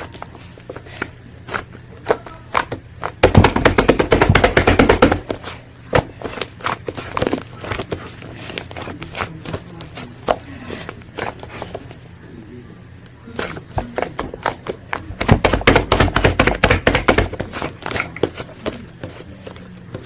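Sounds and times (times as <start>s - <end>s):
rapid crackling of slime: 0.0s - 20.0s.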